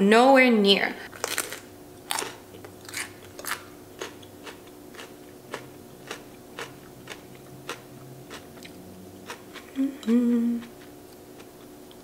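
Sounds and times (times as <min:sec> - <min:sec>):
chewing crisp chili pepper: 0:01.2 - 0:12.0.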